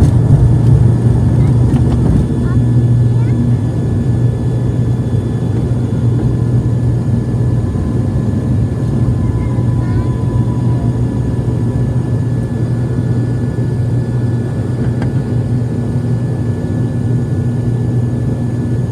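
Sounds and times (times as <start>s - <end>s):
turboprop engines droning: 0.0s - 18.9s.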